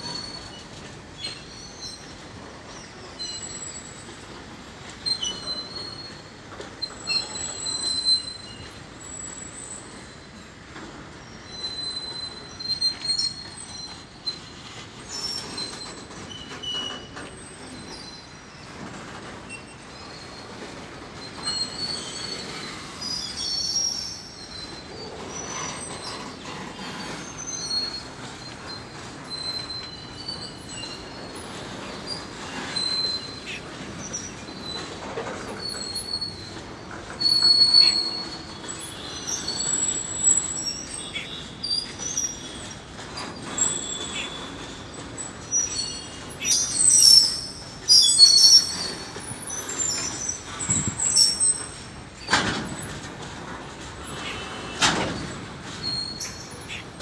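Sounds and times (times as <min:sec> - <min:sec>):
train rolling rumble: 0:00.0 - 0:57.0
train wheels squealing: 0:00.0 - 0:57.0.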